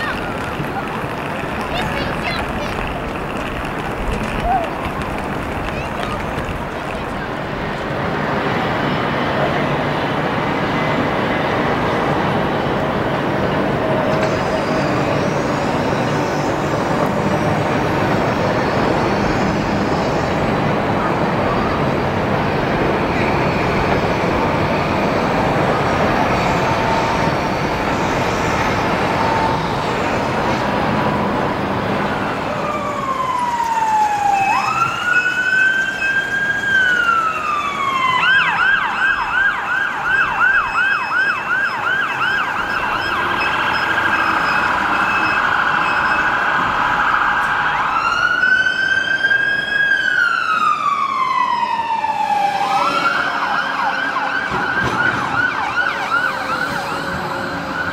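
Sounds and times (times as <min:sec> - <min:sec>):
emergency vehicle siren: 0:00.0 - 0:57.9
road traffic: 0:00.0 - 0:57.9.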